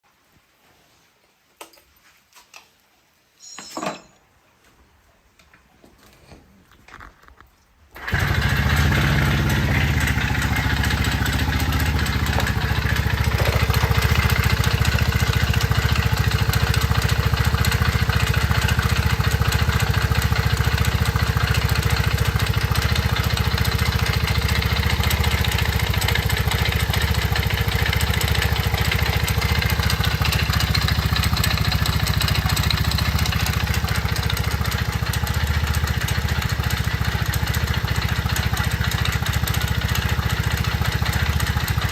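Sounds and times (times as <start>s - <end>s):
small motorcycle engine idling: 8.0s - 41.9s.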